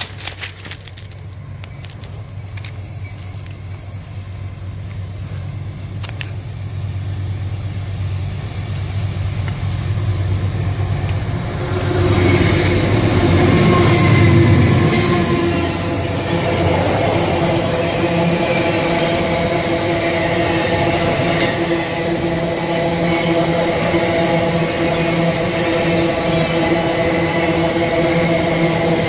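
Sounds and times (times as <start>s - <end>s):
locomotive engine humming: 0.0s - 29.0s.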